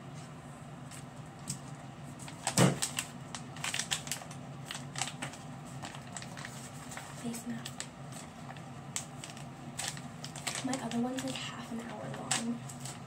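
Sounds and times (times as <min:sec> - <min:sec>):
packet crinkling and clicking: 0:02.2 - 0:13.0.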